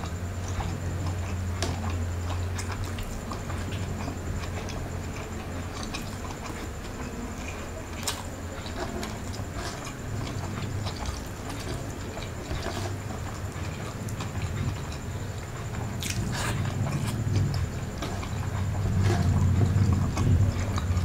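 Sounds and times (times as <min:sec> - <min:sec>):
low steady hum: 0:00.0 - 0:21.0
wet chewing and lip smacks: 0:00.0 - 0:21.0.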